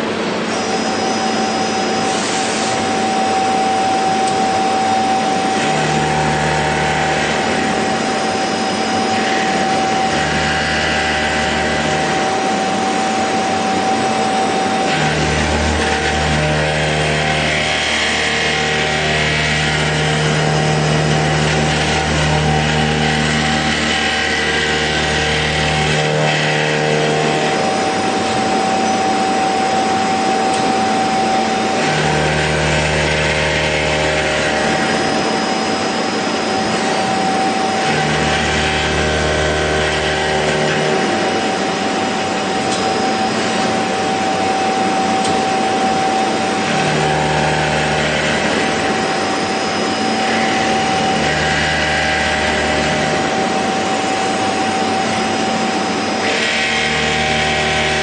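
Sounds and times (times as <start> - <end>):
machine whine with constant tone: 0.0 - 58.0.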